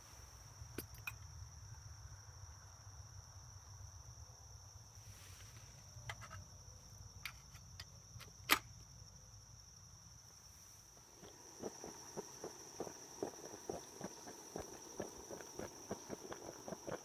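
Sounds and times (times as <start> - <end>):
insects trilling: 0.1 - 17.0.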